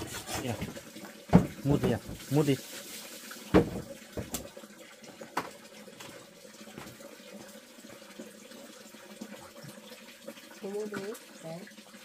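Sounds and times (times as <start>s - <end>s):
faint running water: 0.0s - 12.0s.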